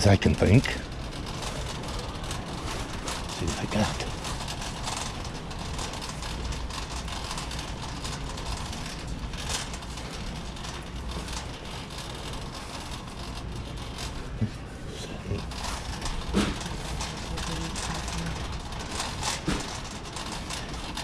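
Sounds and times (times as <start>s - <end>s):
grocery store background rumble: 0.0s - 21.0s.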